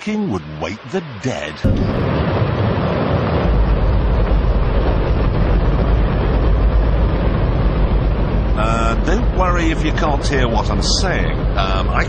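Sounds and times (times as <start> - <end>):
rocket engine roaring: 1.6 - 12.0.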